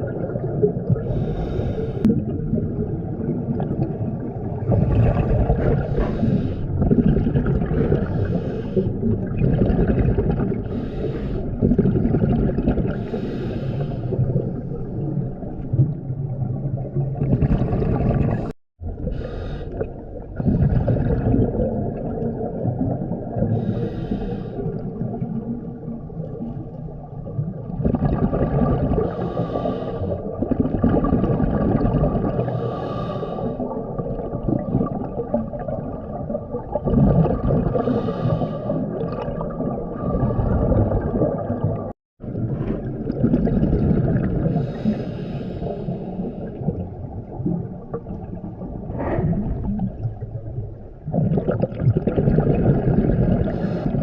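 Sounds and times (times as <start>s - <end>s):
bubbles rumbling and gurgling: 0.0s - 54.0s.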